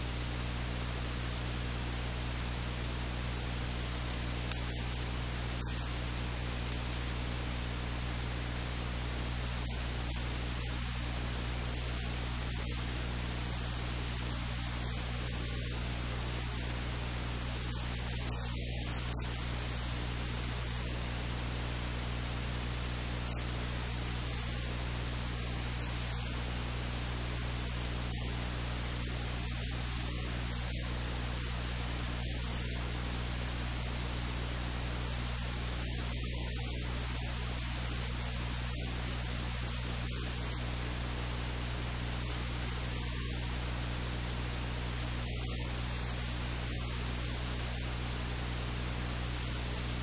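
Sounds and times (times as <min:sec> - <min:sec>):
low electrical hum: 0:00.0 - 0:50.0
steady hiss: 0:00.0 - 0:50.0.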